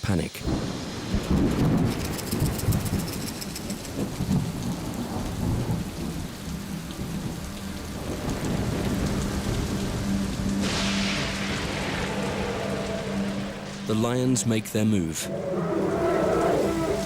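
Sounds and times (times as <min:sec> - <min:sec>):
rain falling: 0:00.4 - 0:17.0
rolling thunder: 0:00.5 - 0:14.2, 0:15.1 - 0:17.0.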